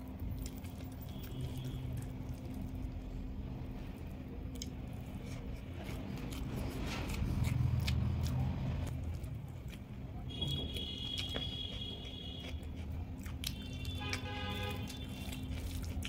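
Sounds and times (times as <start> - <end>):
mouth clicks and chewing: 0.0 - 3.2, 4.4 - 16.0
low steady hum: 0.0 - 16.0.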